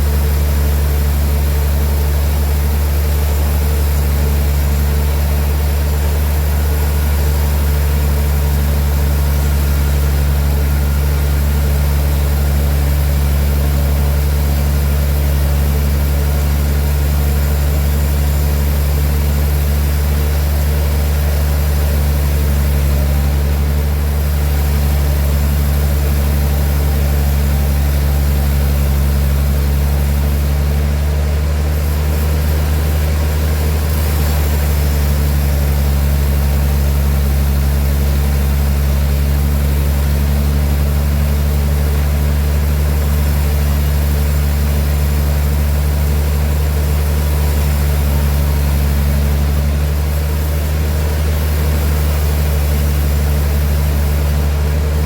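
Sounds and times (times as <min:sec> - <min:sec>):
large engine droning: 0:00.0 - 0:55.0.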